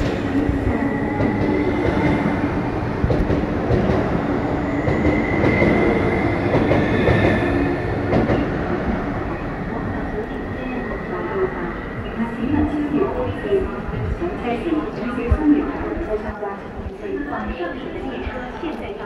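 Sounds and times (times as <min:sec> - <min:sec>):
electric train wheel rumble and rattle: 0:00.0 - 0:19.0
high train whine: 0:00.0 - 0:19.0.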